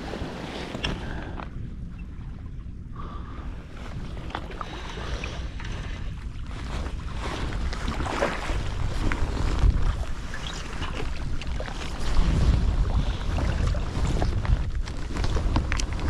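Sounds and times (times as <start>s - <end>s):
faint sea noise: 0.0s - 16.0s
wind buffeting microphone: 0.0s - 16.0s.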